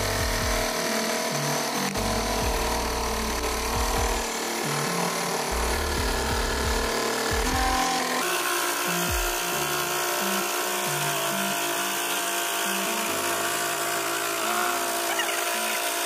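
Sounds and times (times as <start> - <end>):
background music: 0.0 - 16.0
saw blade cutting thin sheet: 0.0 - 16.0
scroll saw motor running: 0.0 - 16.0.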